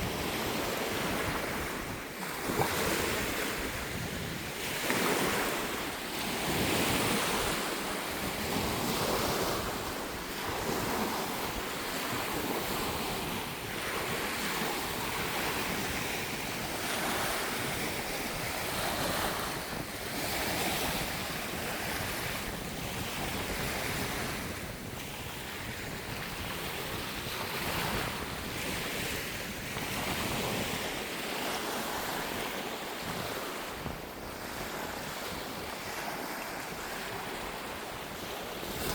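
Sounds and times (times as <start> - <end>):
sea waves washing in: 0.0 - 38.9
wind buffeting microphone: 0.0 - 38.9.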